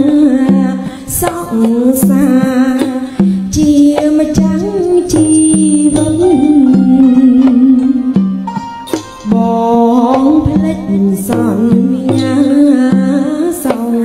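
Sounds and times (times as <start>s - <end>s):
drum pattern low and high strokes: 0.0s - 13.9s
singing with melody: 0.0s - 14.0s.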